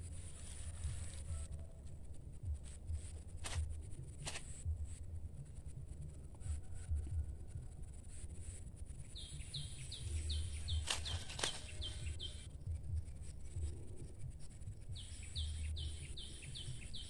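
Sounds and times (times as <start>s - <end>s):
low rumble: 0.0s - 10.9s, 11.7s - 16.8s.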